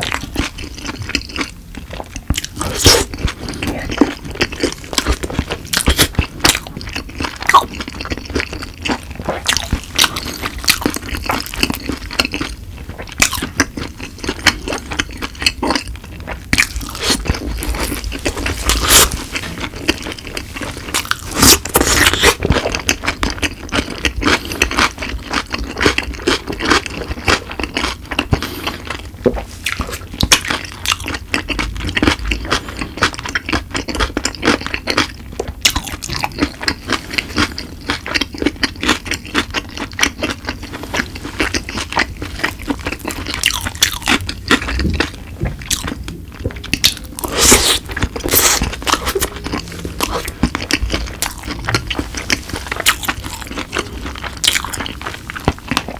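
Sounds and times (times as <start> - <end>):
crunchy chewing of fried chicken: 0.0 - 55.9.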